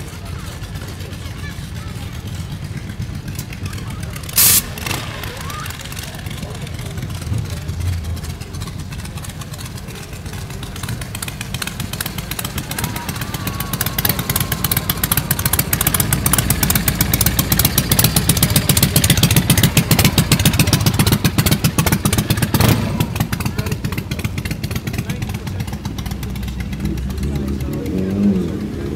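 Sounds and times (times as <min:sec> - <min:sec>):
loud vehicle engine exhaust: 0:00.0 - 0:28.9.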